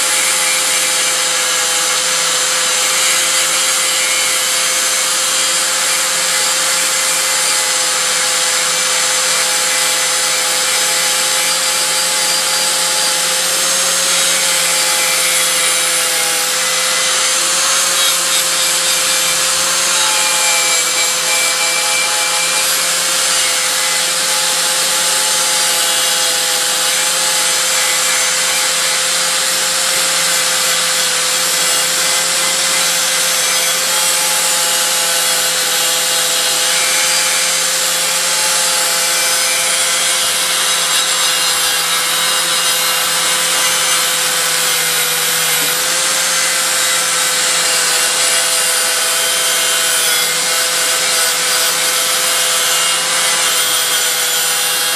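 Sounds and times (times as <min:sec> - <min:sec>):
rotary tool motor whine: 0:00.0 - 0:54.9.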